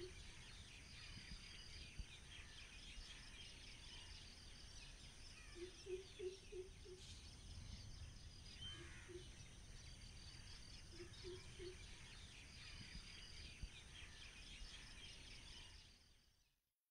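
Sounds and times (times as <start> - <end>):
insects chirping: 0.0 - 15.2
birds chirping: 0.0 - 16.0.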